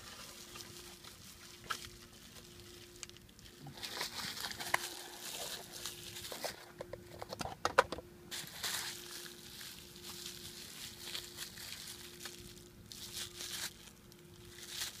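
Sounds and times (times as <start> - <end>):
packaging rustling: 0.0 - 7.5, 8.3 - 15.0.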